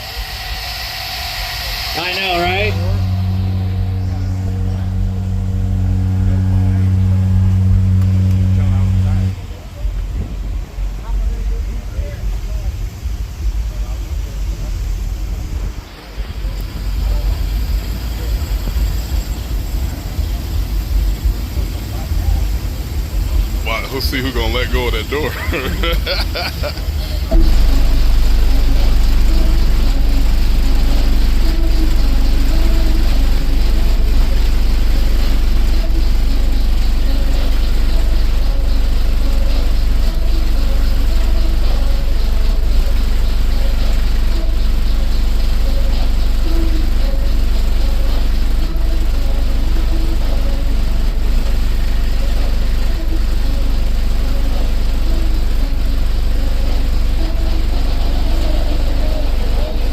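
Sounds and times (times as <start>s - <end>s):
deep subwoofer bass rumble: 0.0s - 59.9s
faint muffled music: 0.0s - 59.9s.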